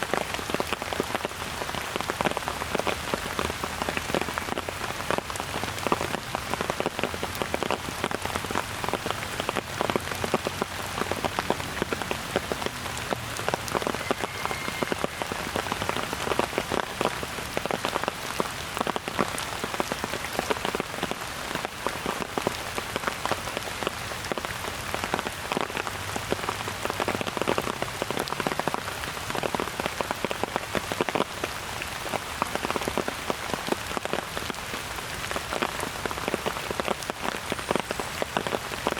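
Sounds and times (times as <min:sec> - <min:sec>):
raindrops hitting close by: 0:00.0 - 0:38.9
steady rain falling: 0:00.0 - 0:38.9.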